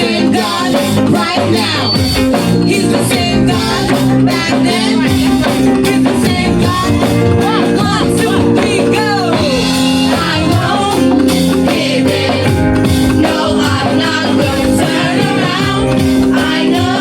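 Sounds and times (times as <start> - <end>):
band playing: 0.0 - 17.0
drums beating: 0.0 - 17.0
voices singing: 0.0 - 17.0.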